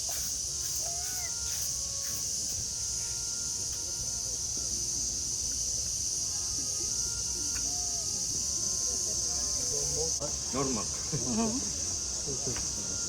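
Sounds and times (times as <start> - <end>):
insects droning: 0.0 - 13.0
low background murmur: 0.0 - 13.0.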